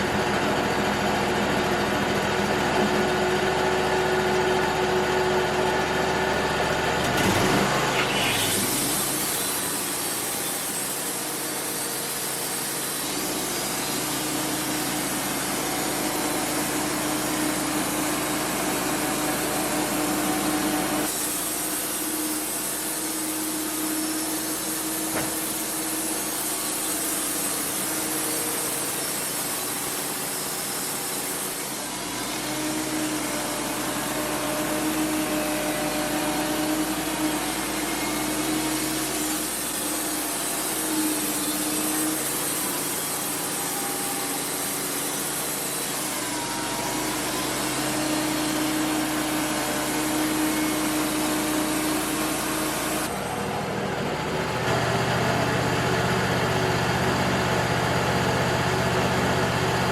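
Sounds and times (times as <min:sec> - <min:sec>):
band sawmill sawing log: 0:00.0 - 0:59.9.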